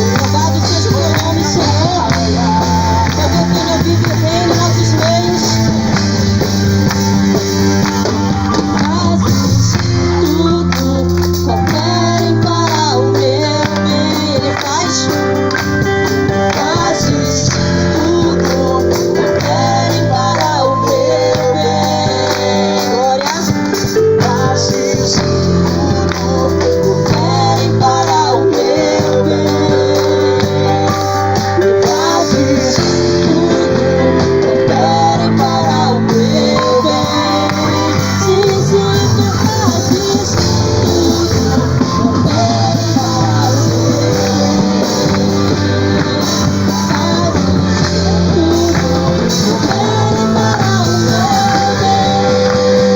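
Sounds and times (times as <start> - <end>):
person singing worship song: 0.0 - 52.9
sustained instrumental chords: 0.0 - 52.9.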